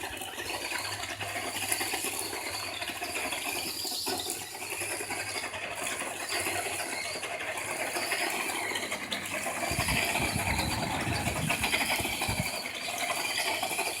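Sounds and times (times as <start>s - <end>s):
toy truck motor and gears clattering: 0.0s - 14.0s.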